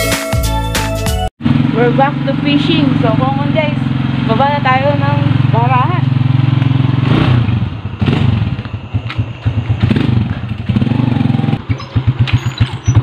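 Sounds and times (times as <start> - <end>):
motorcycle engine idling: 1.4 - 13.0.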